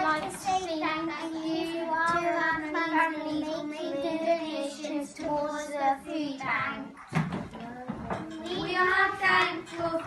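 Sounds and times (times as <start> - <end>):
child singing: 0.0 - 10.0.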